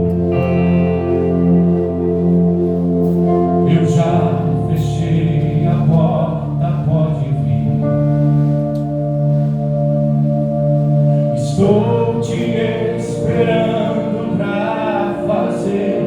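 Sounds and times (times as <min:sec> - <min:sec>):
gospel band music: 0:00.0 - 0:16.0
keyboard chords: 0:00.0 - 0:16.0.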